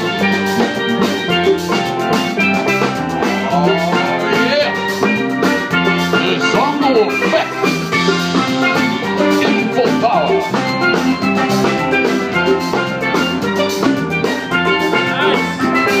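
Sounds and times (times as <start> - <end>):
live band playing dance music: 0.0 - 16.0.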